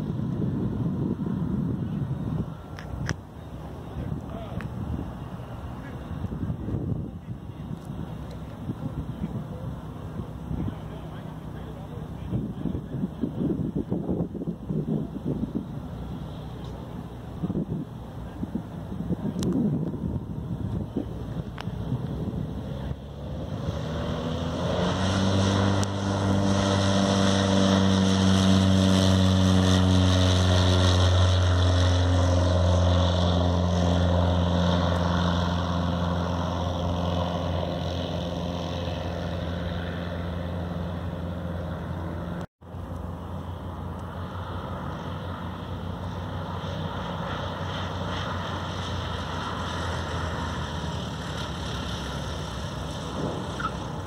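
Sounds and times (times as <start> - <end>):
propeller plane engine: 0.0 - 54.0.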